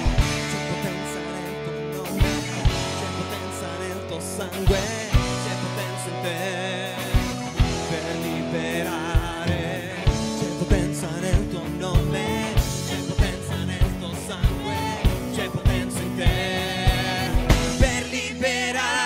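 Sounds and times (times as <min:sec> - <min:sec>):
drum kit beat: 0:00.0 - 0:18.5
people singing: 0:00.0 - 0:19.0
rock band playing: 0:00.0 - 0:19.0.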